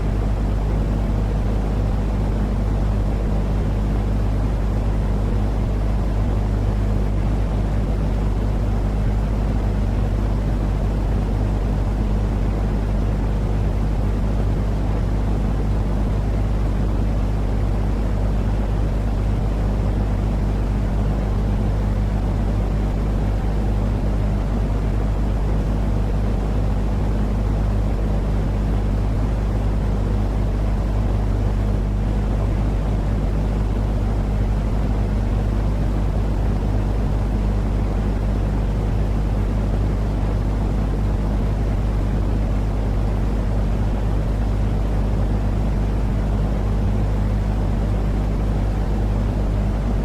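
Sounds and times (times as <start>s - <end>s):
white noise: 0.0s - 50.0s.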